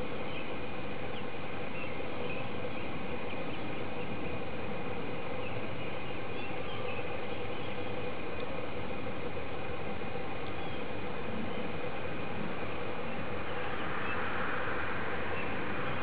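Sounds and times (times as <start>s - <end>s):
faint high-pitched hum: 0.0s - 16.0s.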